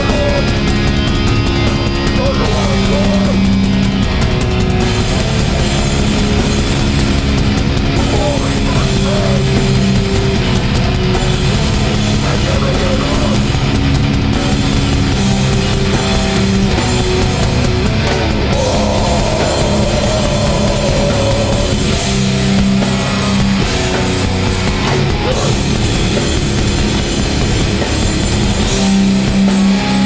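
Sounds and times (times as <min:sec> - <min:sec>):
distorted electric guitars: 0:00.0 - 0:30.0
fast drums: 0:00.0 - 0:30.0.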